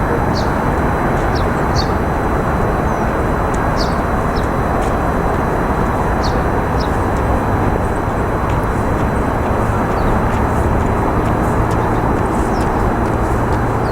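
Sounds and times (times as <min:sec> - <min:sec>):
outdoor background noise: 0:00.0 - 0:13.9.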